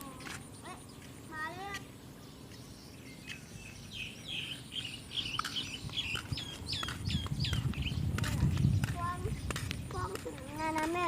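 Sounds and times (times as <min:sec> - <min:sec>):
bird chirping: 0:00.0 - 0:09.9.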